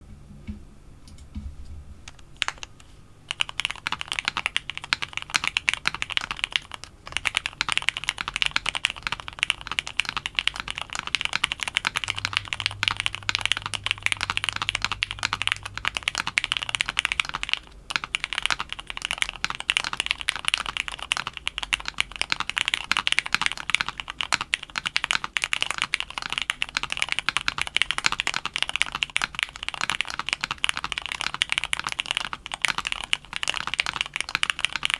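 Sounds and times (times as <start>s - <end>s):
mechanical keyboard typing: 2.1s - 2.7s, 3.3s - 34.9s.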